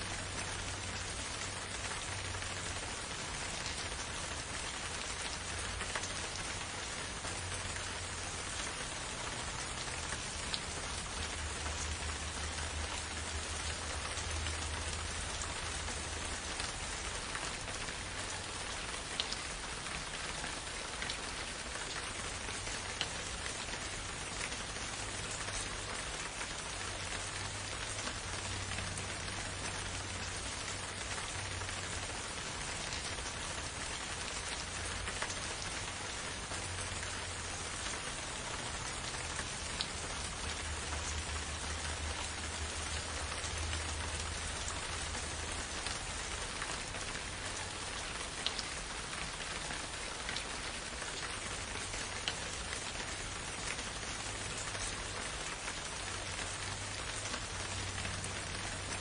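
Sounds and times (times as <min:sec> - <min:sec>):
raindrops landing close by: 0:00.0 - 0:59.0
steady rain hiss: 0:00.0 - 0:59.0.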